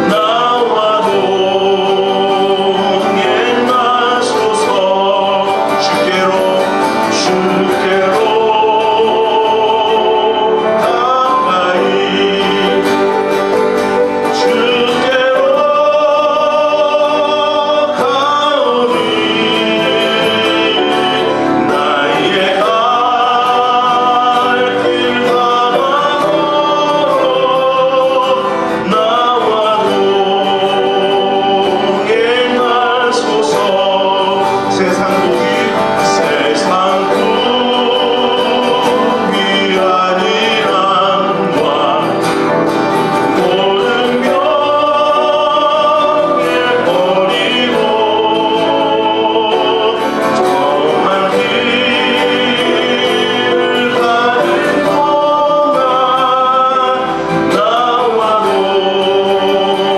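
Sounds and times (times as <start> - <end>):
acoustic guitar: 0.0 - 59.9
man singing a hymn: 0.0 - 59.9.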